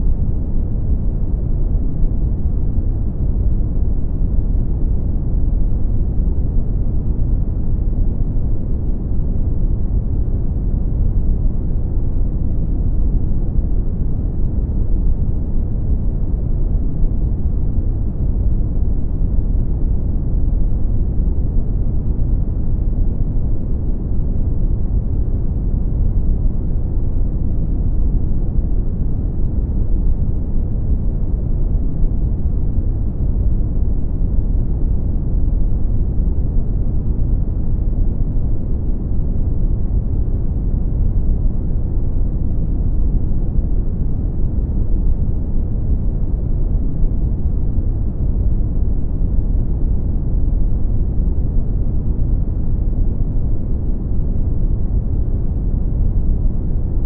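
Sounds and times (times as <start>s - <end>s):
deep rumbling brown noise: 0.0s - 57.0s.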